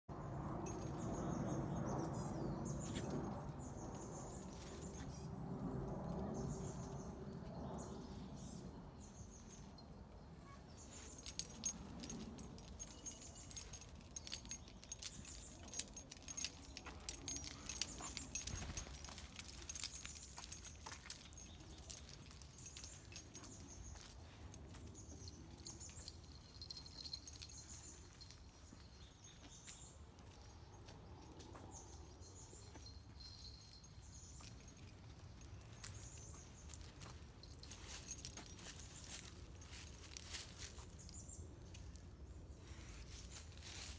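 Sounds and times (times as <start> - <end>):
light clicks and jingling rattles: 0.4 - 43.9
birds chirping: 6.0 - 42.0.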